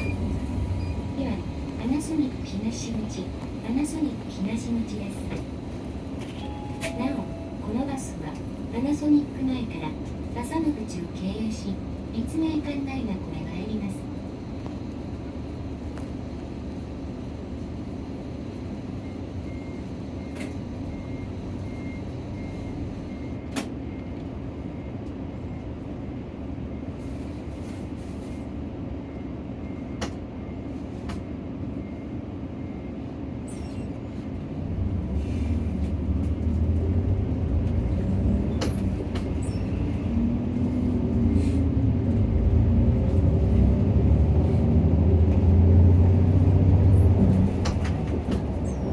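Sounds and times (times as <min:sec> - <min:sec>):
bus diesel engine: 0:00.0 - 0:48.9.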